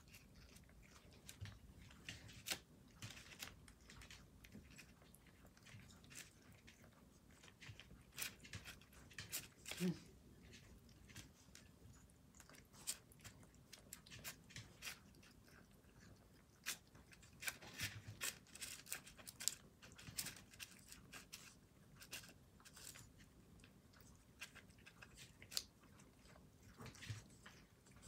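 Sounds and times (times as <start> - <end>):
cats crunching food: 0.0 - 28.0.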